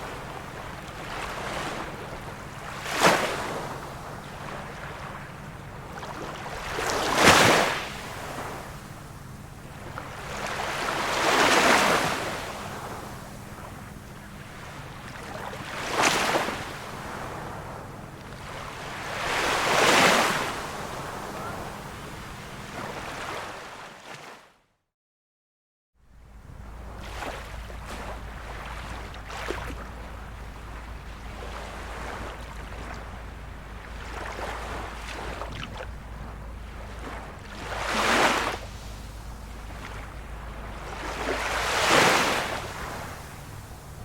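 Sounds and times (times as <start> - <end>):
small waves breaking: 0.0 - 24.5, 26.2 - 44.0.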